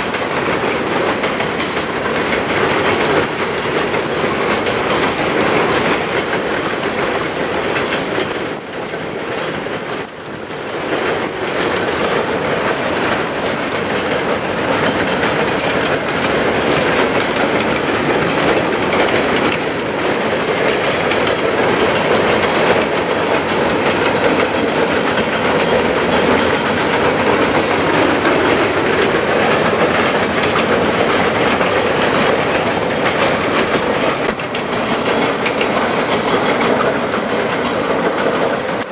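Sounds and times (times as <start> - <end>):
train rumble: 0.0 - 38.9
train wheels clicking over rail joints: 0.0 - 38.9.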